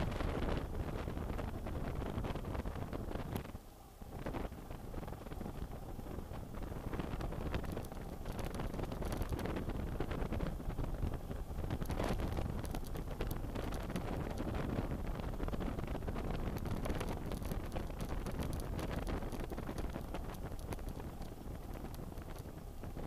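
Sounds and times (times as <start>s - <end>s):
short crackles: 0.0s - 23.0s
wind rushing over microphone: 0.0s - 23.0s.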